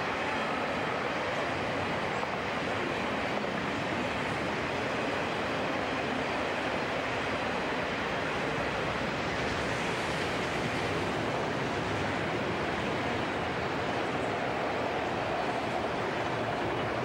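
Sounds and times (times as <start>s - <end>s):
distant freight train rolling: 0.0s - 17.0s
wind: 0.0s - 17.0s.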